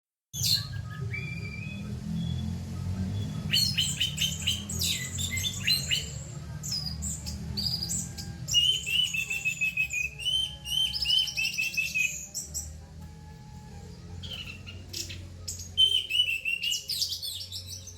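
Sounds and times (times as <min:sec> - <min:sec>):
thrush singing chattering notes: 0:00.4 - 0:17.9.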